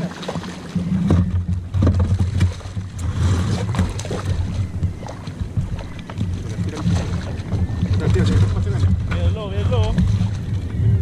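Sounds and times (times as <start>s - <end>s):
knocks and splashes: 0.0s - 10.8s
outboard motor idling: 0.0s - 11.0s
wind buffeting microphone: 0.0s - 11.0s.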